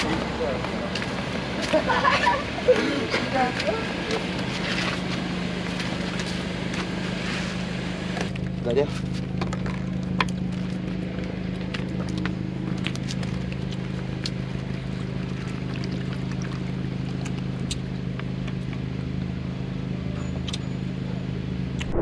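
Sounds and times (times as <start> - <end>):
low mechanical hum: 0.1 - 22.0.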